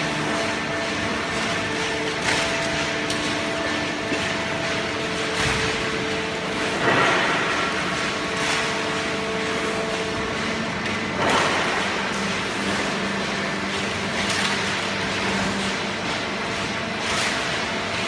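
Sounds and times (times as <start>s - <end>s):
baling press machine hum: 0.0s - 18.0s.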